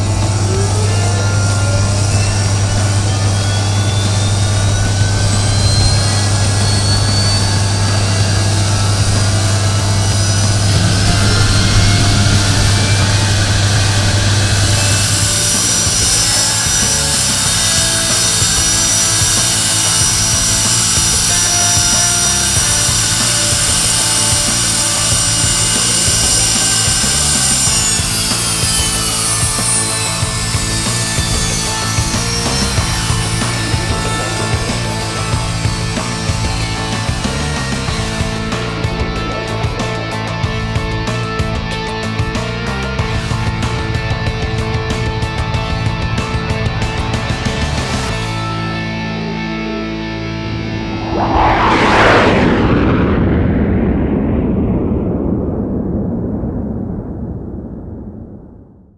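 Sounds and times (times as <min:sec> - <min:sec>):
high whines rising in pitch: 0:00.0 - 0:40.4, 0:50.3 - 0:58.6
jet engines running: 0:00.0 - 0:48.5, 0:50.1 - 0:58.7.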